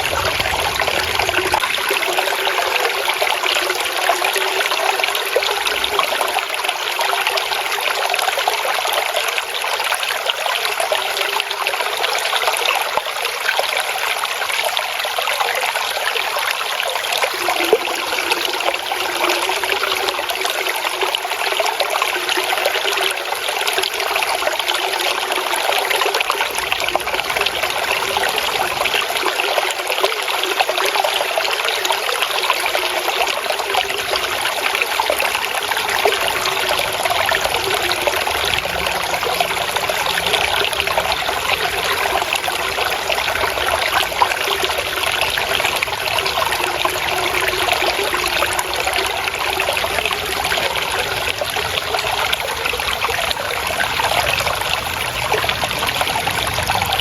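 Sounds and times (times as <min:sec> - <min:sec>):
water babbling over stones: 0:00.0 - 0:57.0.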